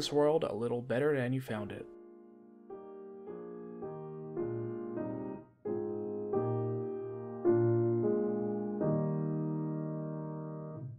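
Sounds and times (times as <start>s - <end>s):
keyboard playing slow chords: 1.8s - 10.9s.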